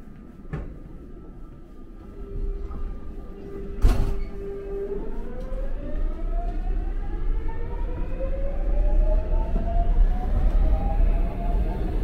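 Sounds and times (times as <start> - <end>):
low rumble of train car: 0.0 - 12.0.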